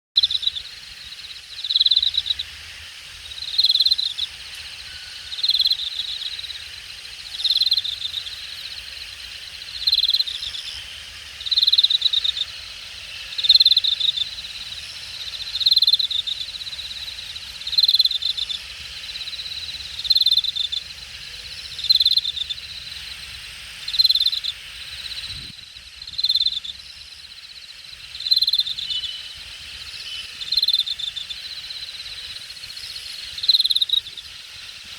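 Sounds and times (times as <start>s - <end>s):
insect buzzy bursts: 0.2s - 34.9s
insects high trill: 0.2s - 34.9s.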